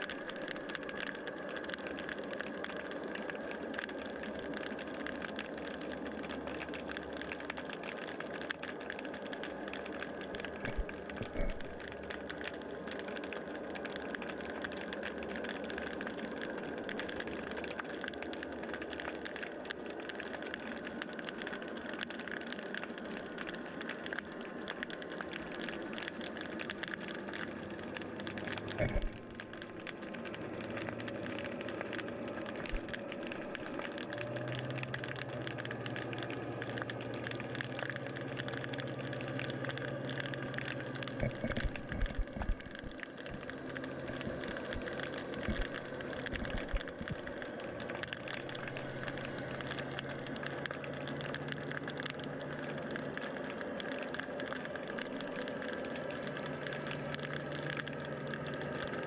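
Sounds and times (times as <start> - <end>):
underwater motor hum: 0.0 - 59.0
water wash: 0.0 - 59.0.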